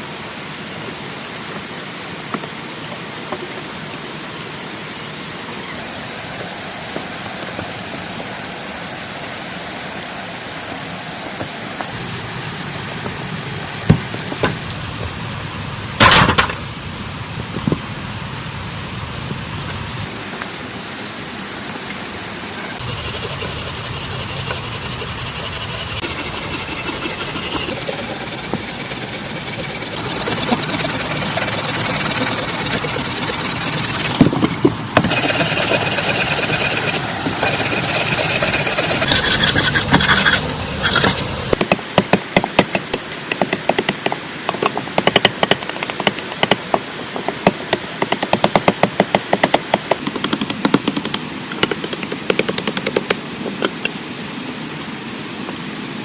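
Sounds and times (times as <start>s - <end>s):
steady rain: 0.0s - 39.2s, 39.9s - 56.0s.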